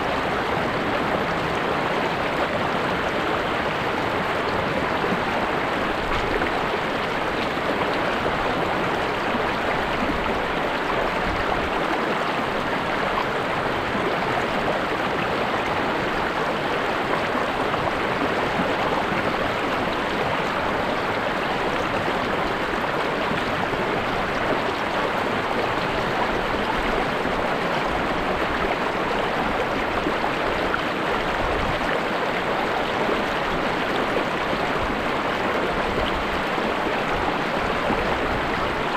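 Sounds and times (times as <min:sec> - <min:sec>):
river water flowing and splashing: 0:00.0 - 0:38.9.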